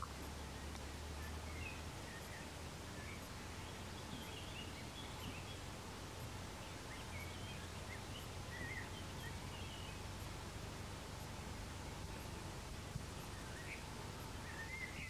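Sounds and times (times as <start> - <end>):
low hiss and hum: 0.0 - 15.0
small birds chirping: 0.0 - 15.0.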